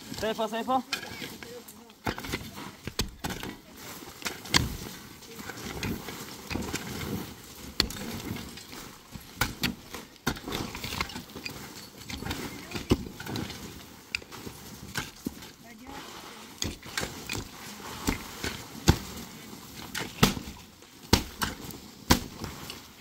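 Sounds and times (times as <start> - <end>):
pickaxes striking packed earth: 0.0 - 23.0.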